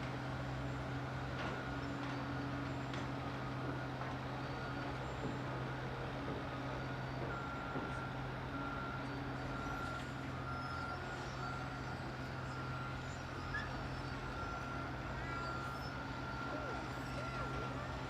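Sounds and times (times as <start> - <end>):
diesel machine running: 0.0 - 18.0.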